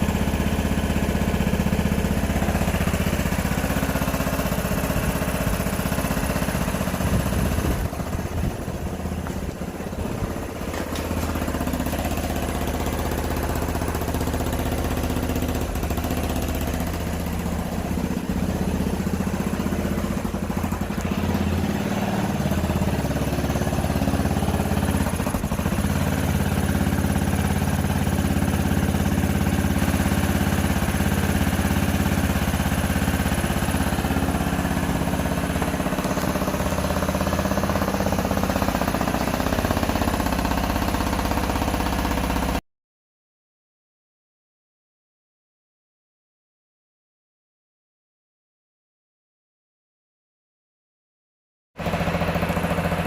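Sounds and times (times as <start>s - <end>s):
motorcycle engine idling: 0.0s - 42.6s, 51.8s - 53.0s.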